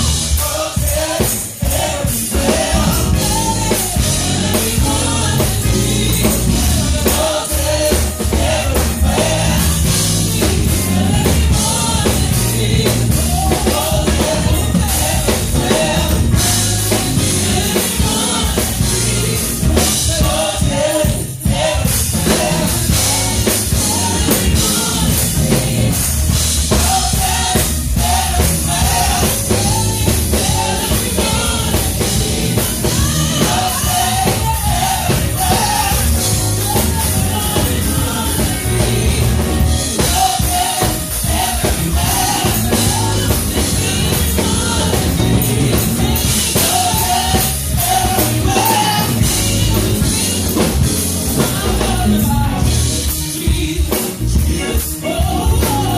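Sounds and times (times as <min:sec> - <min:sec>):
band with drum kit: 0:00.0 - 0:55.9.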